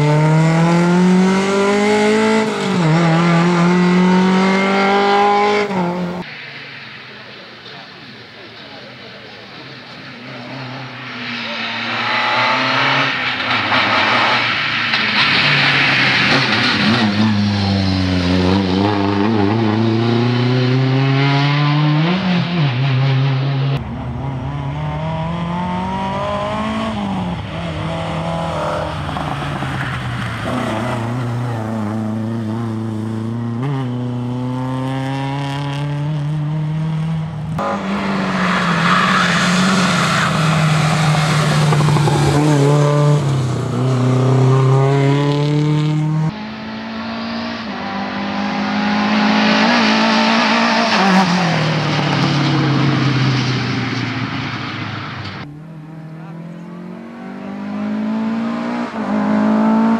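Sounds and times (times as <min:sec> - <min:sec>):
rally car engine revving: 0:00.0 - 0:06.2, 0:10.0 - 0:59.9.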